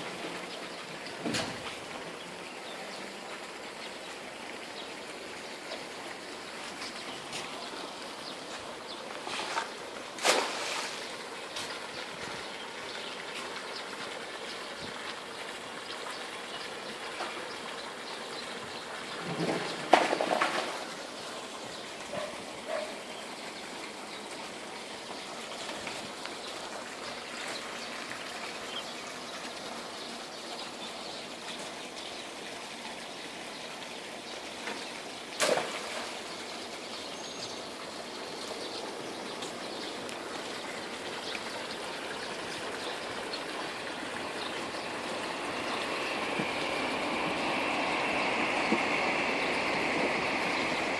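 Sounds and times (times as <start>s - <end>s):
running trickling water: 0.0s - 50.9s.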